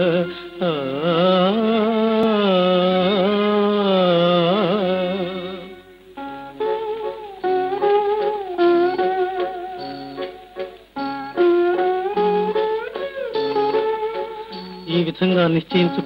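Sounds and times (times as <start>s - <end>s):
held melodic line: 0.0s - 16.0s
plucked string notes: 0.0s - 16.0s.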